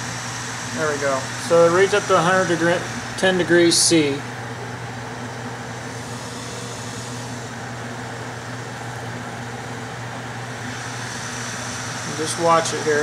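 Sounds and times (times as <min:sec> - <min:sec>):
exhaust fan humming: 0:00.0 - 0:13.0.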